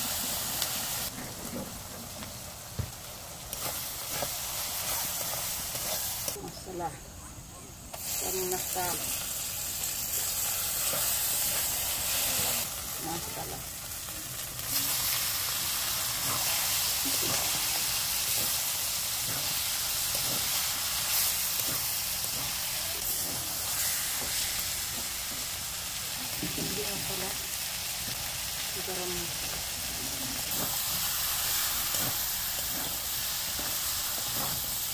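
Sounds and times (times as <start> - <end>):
food sizzling in hot oil: 0.0 - 6.6, 7.8 - 34.9.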